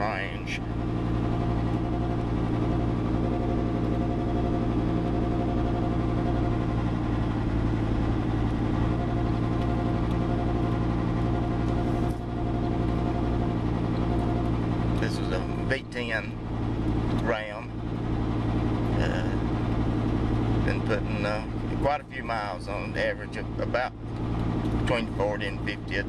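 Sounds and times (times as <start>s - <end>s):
pickup exhaust droning: 0.0s - 26.0s.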